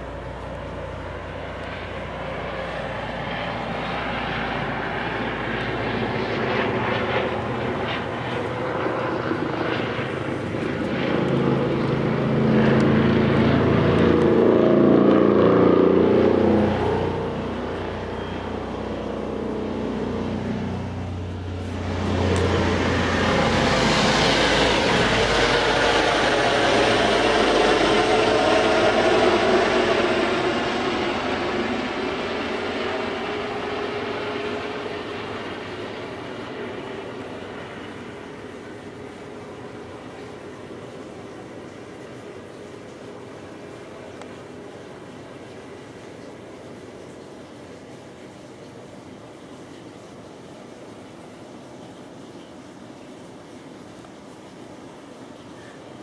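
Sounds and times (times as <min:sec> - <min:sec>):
helicopter flying overhead: 0:00.0 - 0:56.0.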